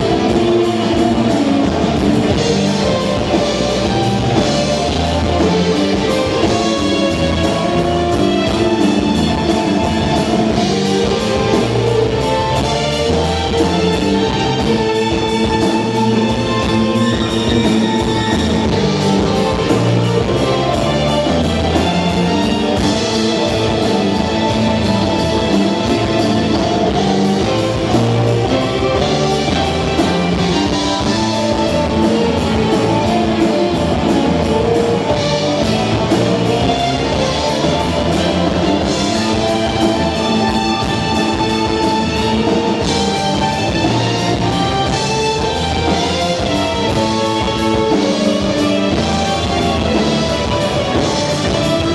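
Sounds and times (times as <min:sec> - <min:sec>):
drum kit beat: 0:00.0 - 0:51.9
electric guitar: 0:00.0 - 0:51.9.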